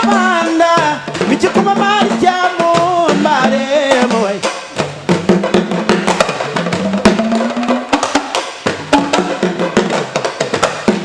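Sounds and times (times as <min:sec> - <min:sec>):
sharp drum strikes: 0:00.0 - 0:11.0.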